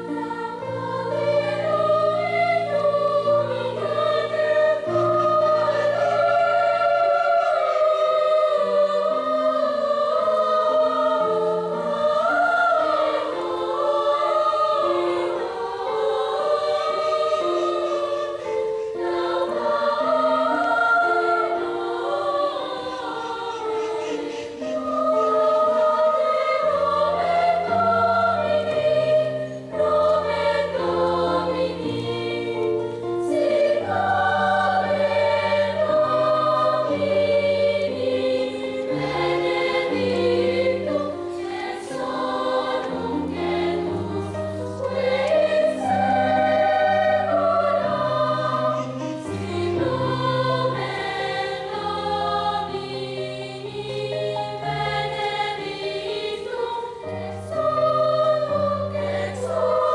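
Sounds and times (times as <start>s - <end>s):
children's choir singing in harmony: 0.0s - 59.9s.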